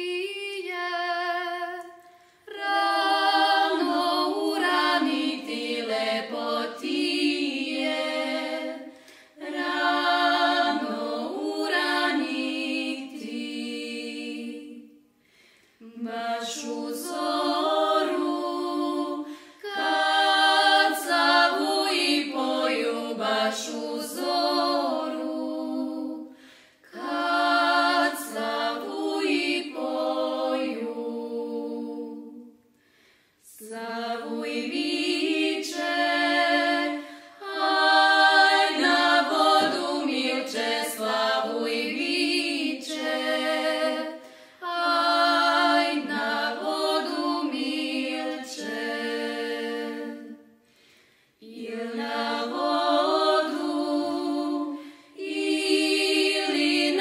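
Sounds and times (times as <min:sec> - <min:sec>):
women singing a cappella: 0:00.0 - 0:57.0.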